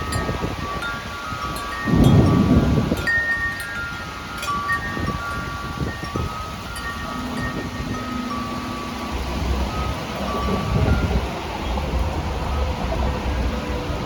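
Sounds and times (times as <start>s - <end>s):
wind chimes ringing: 0.0s - 12.9s
low rush of wind: 0.0s - 14.0s.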